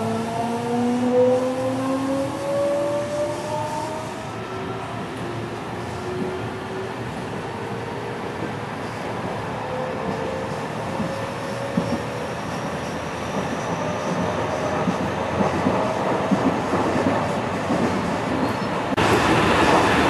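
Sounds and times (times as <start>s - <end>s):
train rolling on rails: 0.0s - 20.0s.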